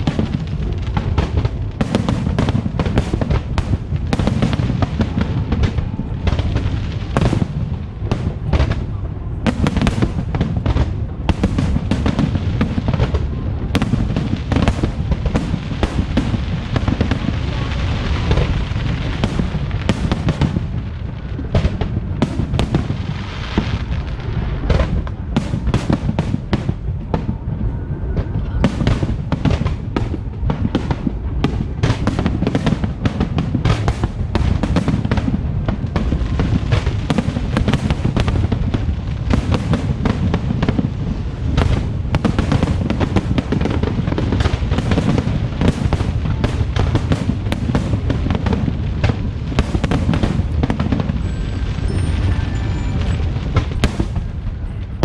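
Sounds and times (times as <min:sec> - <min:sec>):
deep rumble: 0:00.0 - 0:55.0
fireworks bangs and crackles: 0:00.0 - 0:55.0.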